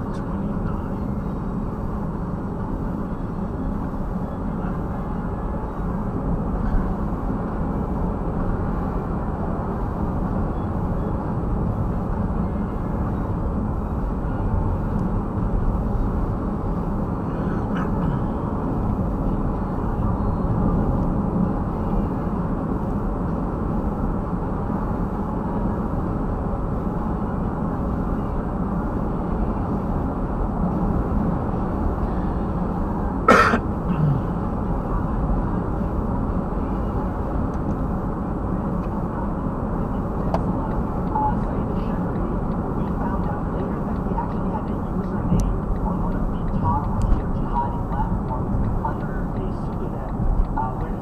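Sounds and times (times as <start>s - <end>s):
car cabin road and engine rumble: 0.0s - 51.0s.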